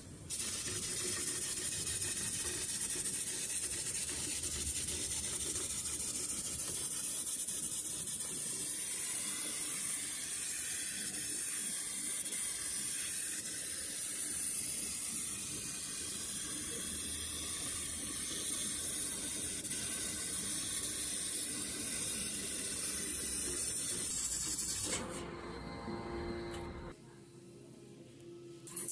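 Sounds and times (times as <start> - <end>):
laser cutter gas jet hissing: 0.3 - 25.2.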